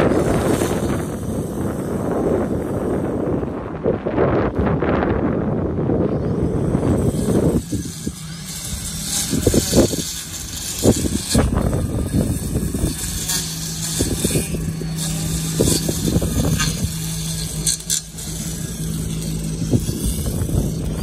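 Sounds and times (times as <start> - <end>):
brush cutter humming: 0.0 - 21.0.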